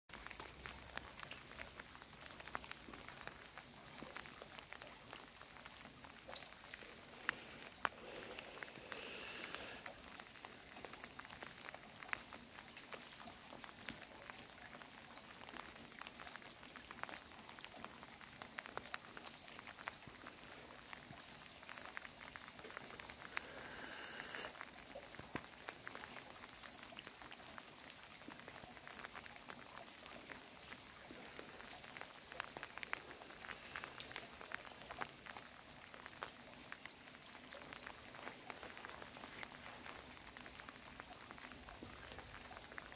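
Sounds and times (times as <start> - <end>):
rain falling: 0.1 - 42.9
raindrops ticking on surfaces: 0.1 - 42.9.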